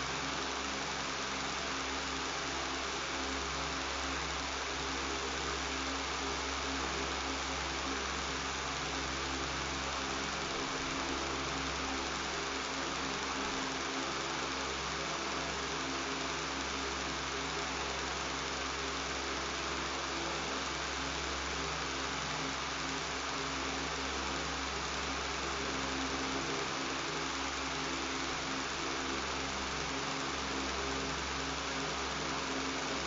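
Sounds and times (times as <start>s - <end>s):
electric fan running: 0.0s - 33.0s.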